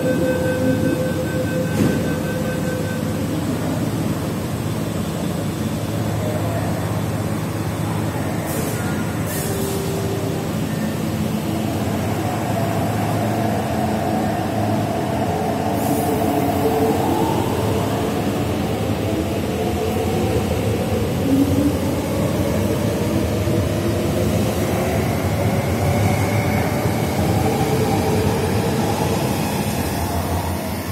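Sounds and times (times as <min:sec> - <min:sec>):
train rumbling: 0:00.0 - 0:30.9.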